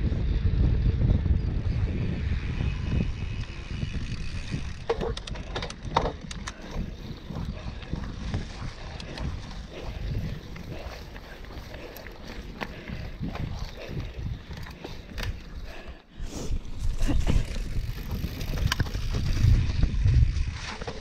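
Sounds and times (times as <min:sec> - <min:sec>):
bike clicks and rattles: 0:00.0 - 0:21.0
bike tyres rumbling: 0:00.0 - 0:21.0
wind on microphone: 0:00.0 - 0:21.0.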